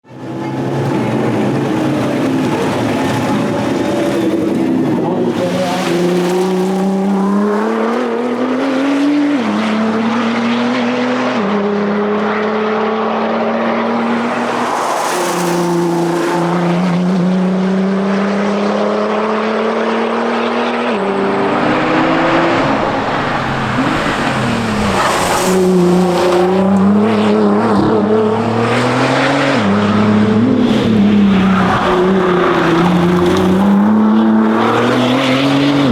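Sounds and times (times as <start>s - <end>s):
car engine accelerating hard: 0.0s - 35.9s.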